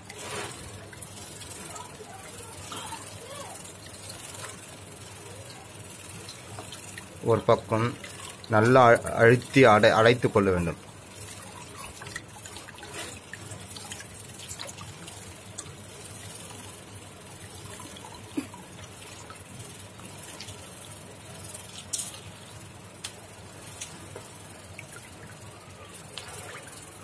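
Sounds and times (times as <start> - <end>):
water drips: 0.0 - 27.0
water trickling into steel bowl: 0.0 - 27.0.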